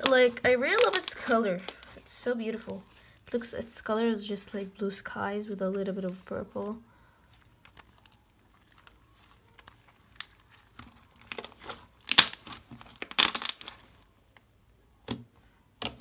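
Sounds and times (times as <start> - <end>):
slime squishing: 0.0 - 16.0.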